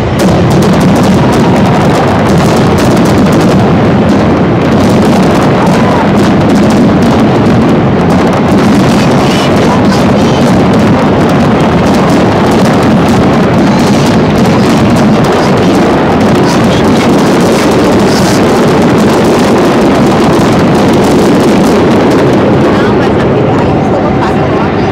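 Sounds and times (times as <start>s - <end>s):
fireworks bursts and crackling: 0.0s - 24.9s.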